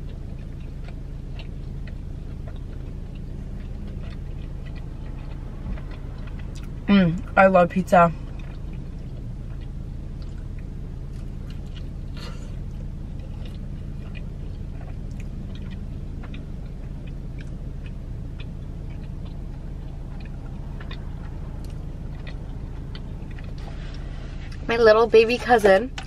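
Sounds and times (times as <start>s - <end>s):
person chewing: 0.0s - 7.4s, 8.2s - 24.7s
steady low hum: 0.0s - 26.0s.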